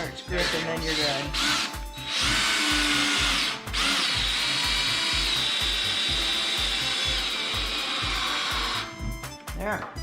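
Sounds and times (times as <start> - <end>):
cordless drill driving screw: 0.4 - 9.0.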